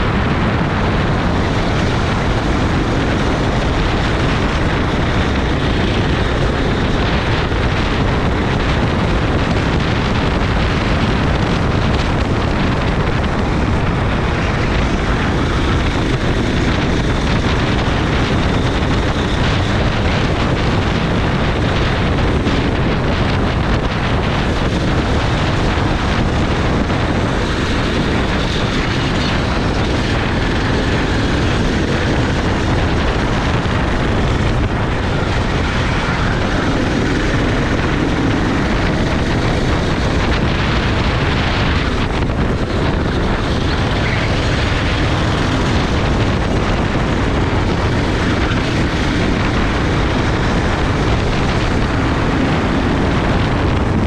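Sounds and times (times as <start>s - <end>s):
kart engine running at speed: 0.0s - 54.0s.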